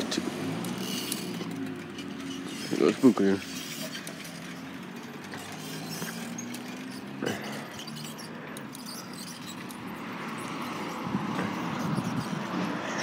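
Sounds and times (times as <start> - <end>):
distant truck engine hum: 0.0 - 13.0
traffic noise: 0.0 - 13.0.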